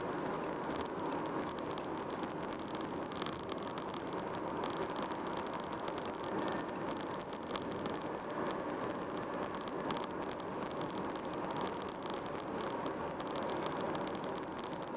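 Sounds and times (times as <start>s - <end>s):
car road and tyre noise: 0.0s - 14.9s.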